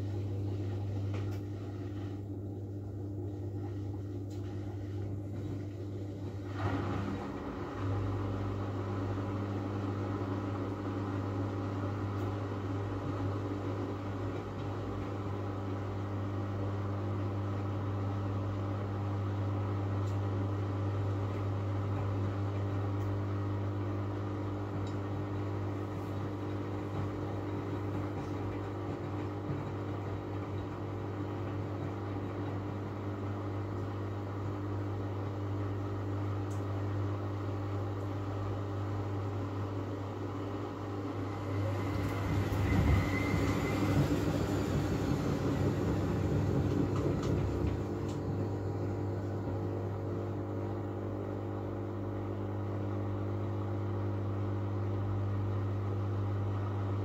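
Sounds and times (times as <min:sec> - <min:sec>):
drain pump humming: 0:00.0 - 0:57.0
washing machine drum spinning: 0:00.0 - 0:57.0.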